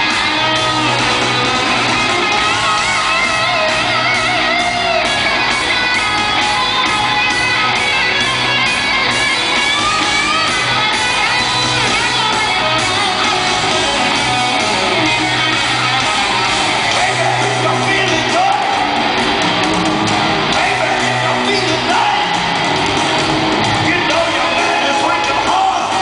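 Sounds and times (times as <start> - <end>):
live hard rock band: 0.0 - 26.0.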